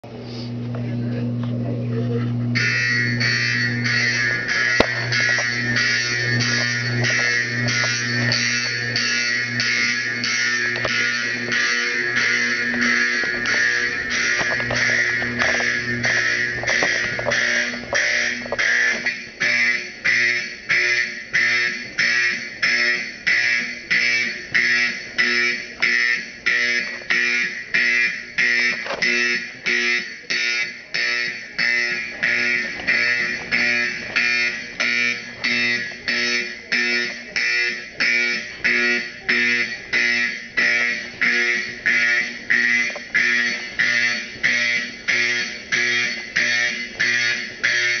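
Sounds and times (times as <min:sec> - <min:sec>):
fire alarm horn pulsing: 0:00.1 - 0:48.0.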